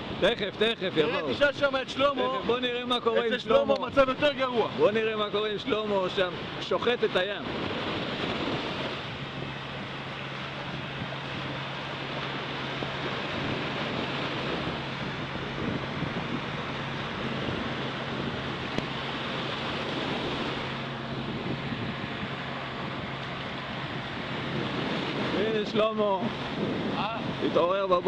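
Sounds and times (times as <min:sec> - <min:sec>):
small surf washing up sand: 0:00.0 - 0:27.7
wind on microphone: 0:00.0 - 0:28.0.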